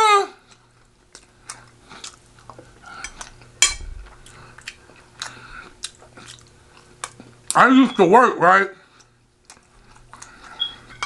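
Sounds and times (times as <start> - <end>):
chewing: 0.4 - 7.6, 8.9 - 11.0.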